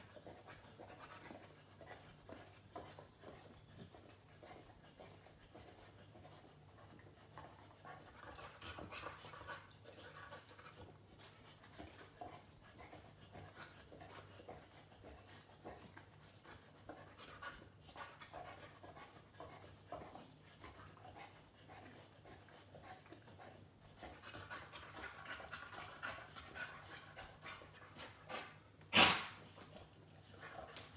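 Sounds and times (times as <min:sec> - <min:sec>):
dog panting: 0:00.0 - 0:30.9.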